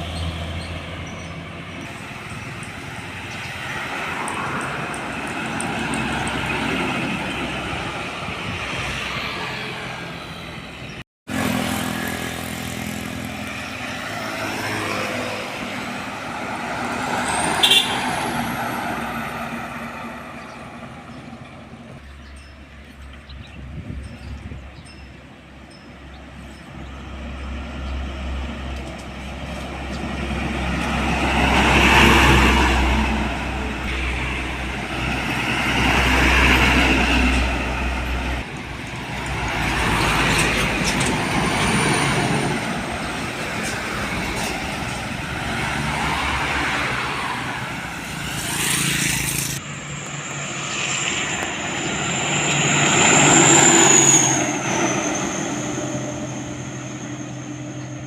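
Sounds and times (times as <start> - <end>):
trucks driving past: 0.0 - 58.0.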